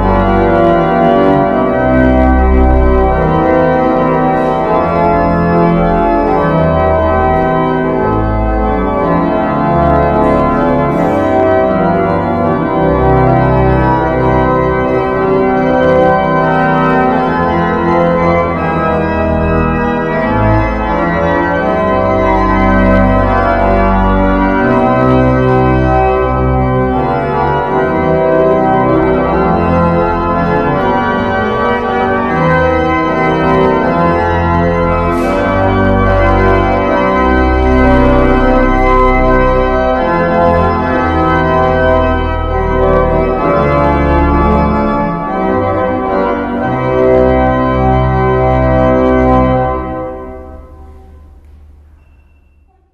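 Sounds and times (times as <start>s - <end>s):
church organ playing chords: 0.0s - 52.9s.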